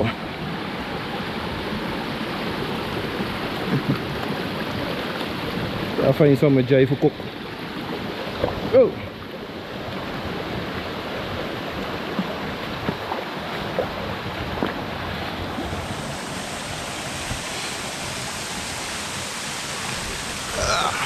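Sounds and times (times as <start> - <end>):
mountain river rushing: 0.0 - 21.0.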